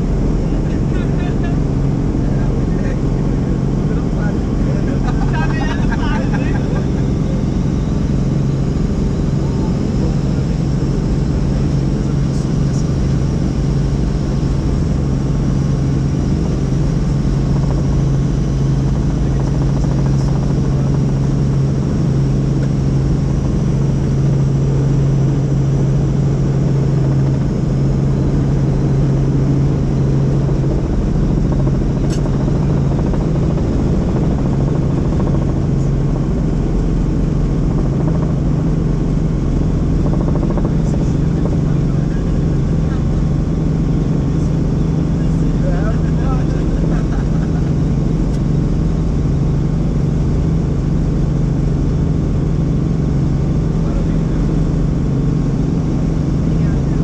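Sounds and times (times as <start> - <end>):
helicopter rotor drone: 0.0 - 57.0.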